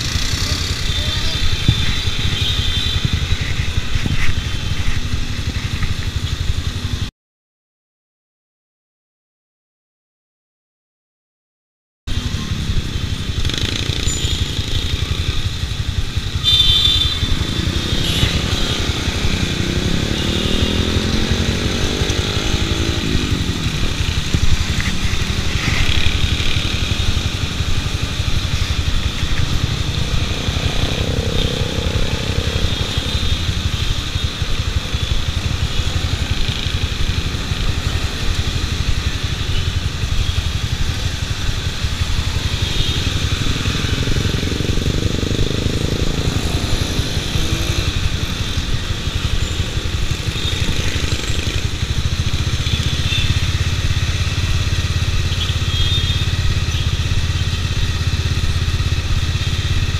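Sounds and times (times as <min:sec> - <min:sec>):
motorcycle engine idling: 0:00.0 - 0:07.0, 0:12.1 - 0:59.9
passing motorcycle traffic: 0:00.0 - 0:07.1, 0:12.1 - 0:59.9.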